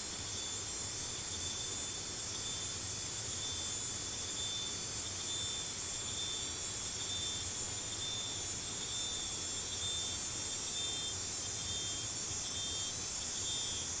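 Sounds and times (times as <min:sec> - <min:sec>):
insects high-pitched hiss: 0:00.0 - 0:14.0
shrill insect trill: 0:00.0 - 0:14.0.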